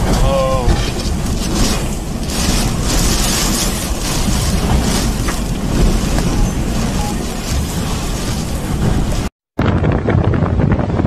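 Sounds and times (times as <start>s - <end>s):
strong wind gusts buffeting microphone: 0.0s - 11.0s.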